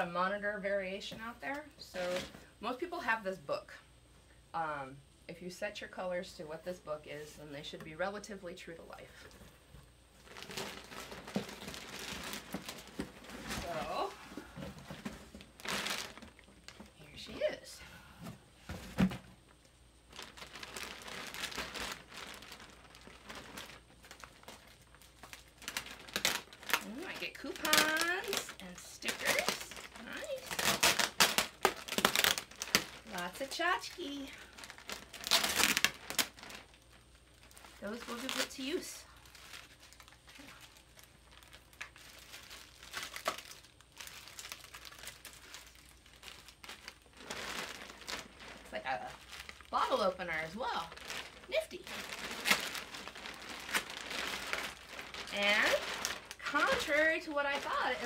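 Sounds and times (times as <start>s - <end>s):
plastic bag crinkling: 8.9s - 17.7s, 18.7s - 58.0s.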